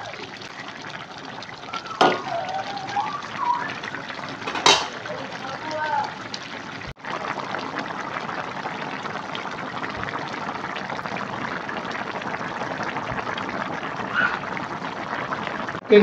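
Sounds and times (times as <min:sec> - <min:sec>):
soup boiling in a wok: 0:00.0 - 0:16.0.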